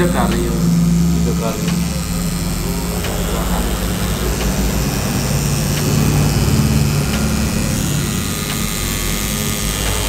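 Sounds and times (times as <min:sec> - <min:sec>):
tattoo machine buzzing: 0:00.0 - 0:10.0.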